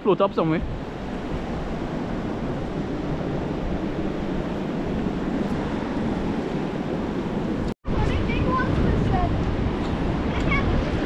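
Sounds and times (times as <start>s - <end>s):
ocean surf washing: 0.0s - 11.0s
wind noise on microphone: 0.2s - 11.0s.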